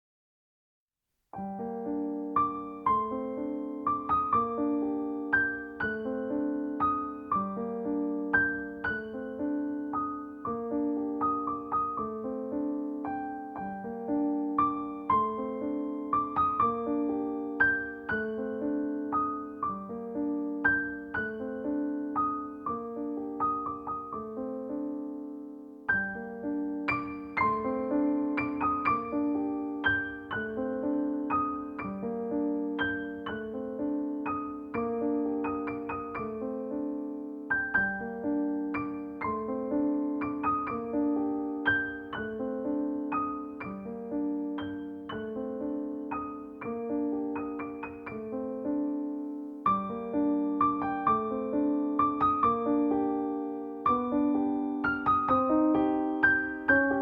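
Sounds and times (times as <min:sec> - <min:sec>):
gentle piano melody: 0:01.3 - 0:57.0.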